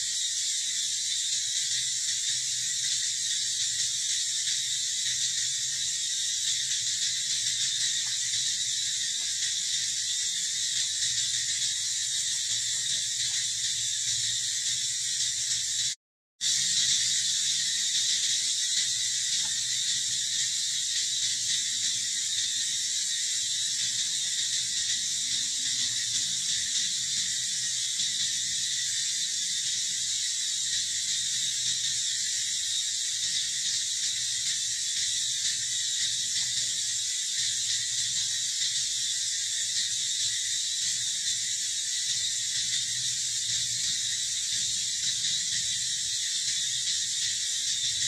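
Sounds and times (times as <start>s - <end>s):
insect chorus drone: 0.0s - 48.0s.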